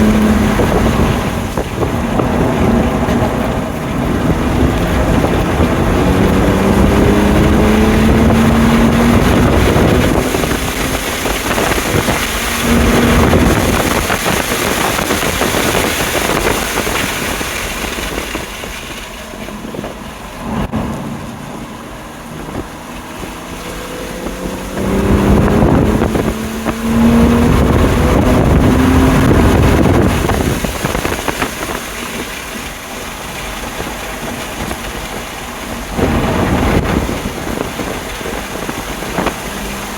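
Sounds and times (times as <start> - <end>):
car engine accelerating hard: 0.0 - 39.9
wind noise: 0.0 - 39.9.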